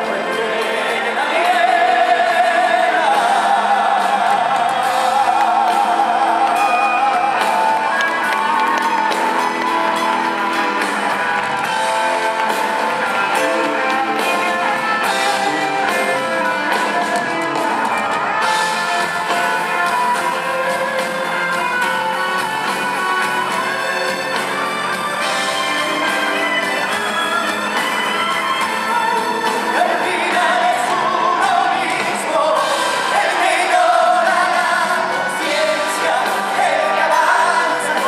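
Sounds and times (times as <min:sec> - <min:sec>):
man singing with vibrato: 0:00.0 - 0:08.1, 0:11.8 - 0:38.0
drums and cymbals: 0:00.0 - 0:38.0
live band music: 0:00.0 - 0:38.0.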